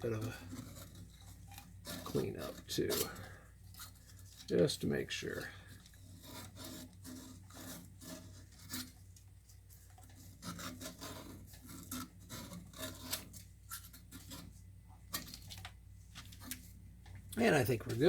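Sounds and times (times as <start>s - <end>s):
scraping on pipe end: 0.0s - 16.6s.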